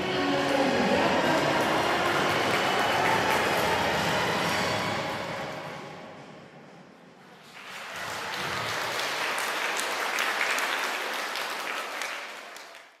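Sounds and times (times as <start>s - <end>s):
audience applauding: 0.8s - 5.7s, 7.4s - 13.0s.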